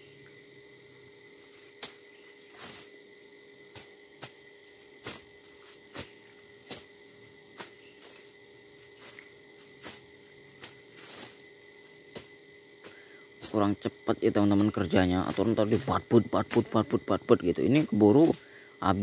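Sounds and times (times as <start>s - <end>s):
insects humming: 0.0s - 19.0s
weeds being cut: 1.4s - 3.1s, 3.7s - 19.0s.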